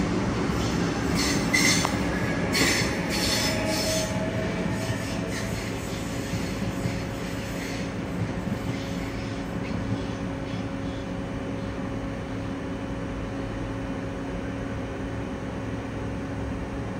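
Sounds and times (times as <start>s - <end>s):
electric train hum: 0.0s - 16.9s
rail noise: 0.0s - 16.9s.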